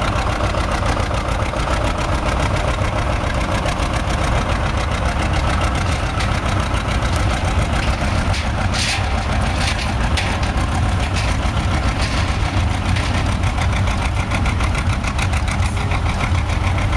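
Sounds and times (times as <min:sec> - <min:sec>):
diesel tractor engine running: 0:00.0 - 0:16.9.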